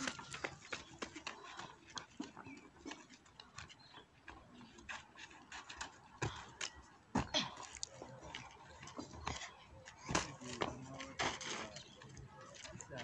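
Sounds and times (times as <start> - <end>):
footsteps on dry dirt: 0.0 - 13.0.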